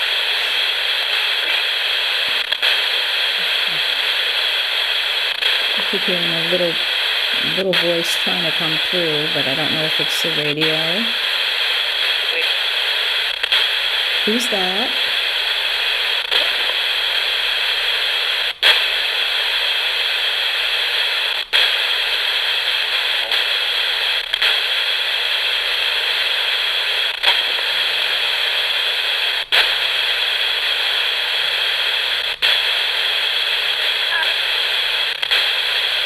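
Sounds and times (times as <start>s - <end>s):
radio static: 0.0s - 36.0s.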